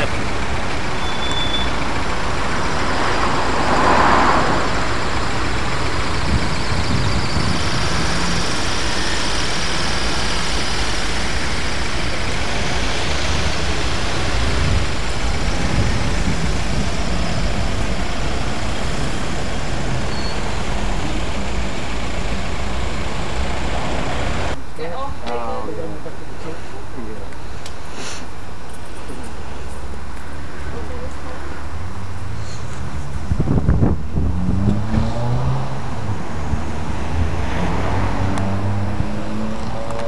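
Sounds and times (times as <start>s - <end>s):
road traffic rumble: 0.0s - 40.0s
vehicle passing: 1.7s - 24.6s, 30.4s - 40.0s.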